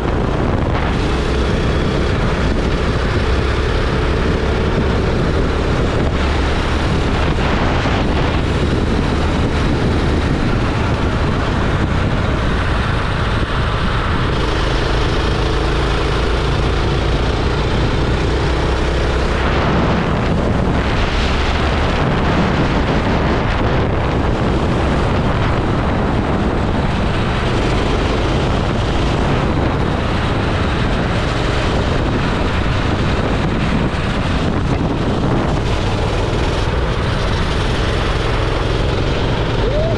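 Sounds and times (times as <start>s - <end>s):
go-kart engine running: 0.0s - 39.9s
wind buffeting microphone: 0.0s - 39.9s.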